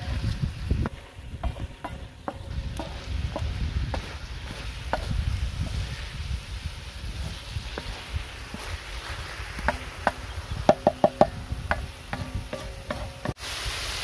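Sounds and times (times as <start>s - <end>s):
wooden spatula scraping griddle: 0.0s - 13.4s
chicken sizzling on griddle: 0.0s - 14.0s.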